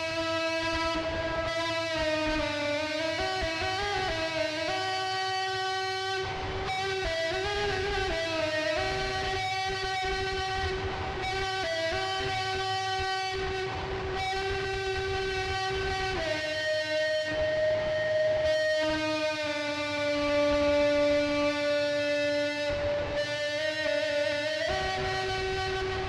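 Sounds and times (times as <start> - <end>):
plucked guitar: 0.0 - 26.0
slow melody of long held notes: 0.0 - 26.0.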